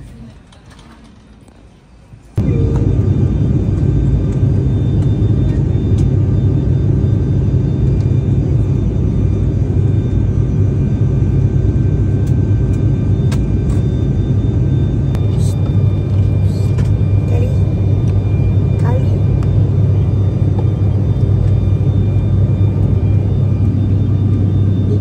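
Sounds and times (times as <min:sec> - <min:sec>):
vehicle engine rumble: 0:02.4 - 0:25.0.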